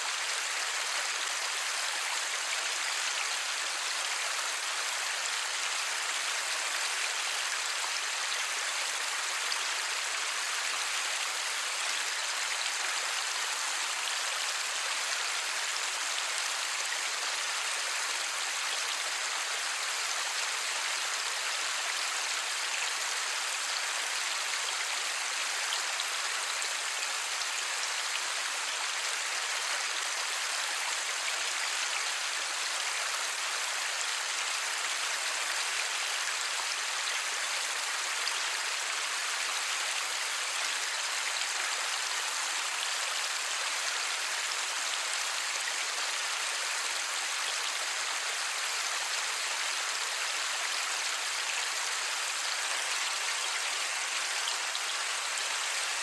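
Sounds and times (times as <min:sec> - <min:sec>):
steady light rain falling: 0:00.0 - 0:56.0.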